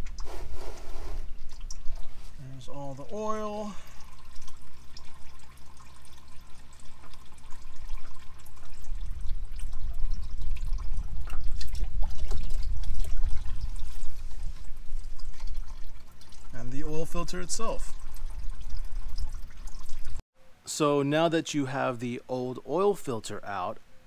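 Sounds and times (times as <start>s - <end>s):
oil trickling and dripping: 0.0s - 20.2s.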